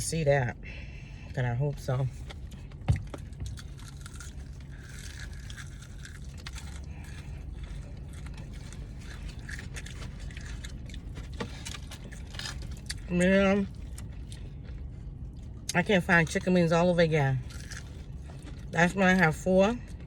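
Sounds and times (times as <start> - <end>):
low steady hum: 0.0 - 20.0
crunching and chewing: 1.3 - 20.0.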